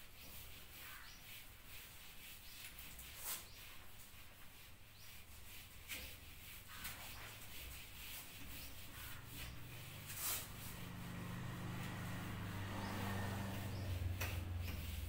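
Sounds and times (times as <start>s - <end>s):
whiteboard being erased: 0.0s - 11.2s, 13.4s - 15.0s.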